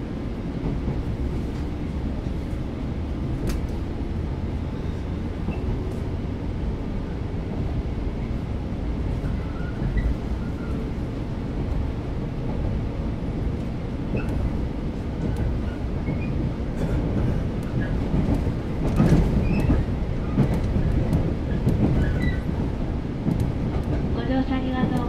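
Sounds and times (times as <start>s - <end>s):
train motor and wheel rumble: 0.0s - 25.0s.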